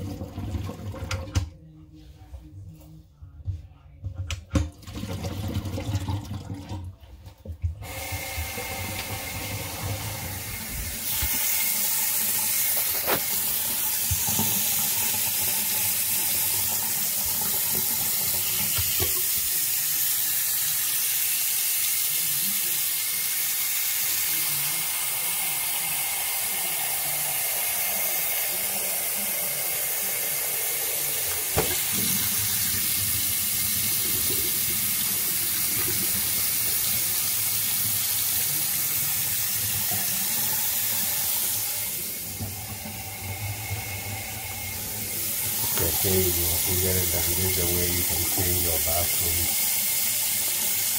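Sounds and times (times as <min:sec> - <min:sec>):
faucet running into sink: 0:00.0 - 0:01.5, 0:04.4 - 0:50.9.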